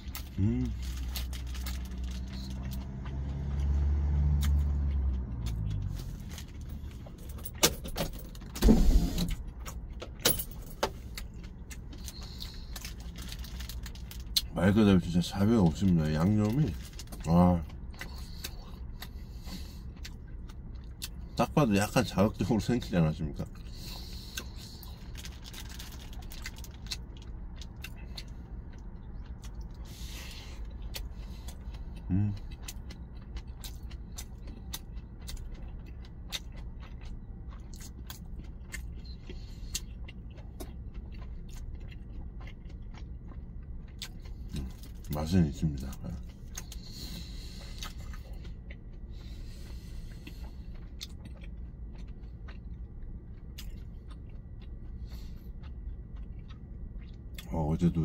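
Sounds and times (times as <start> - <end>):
person chewing with mouth clicks: 0.0 - 7.4, 10.9 - 58.0
biting into wrapped food: 0.0 - 7.5, 11.0 - 21.3, 22.8 - 57.5
vehicle engine rumble: 0.0 - 58.0.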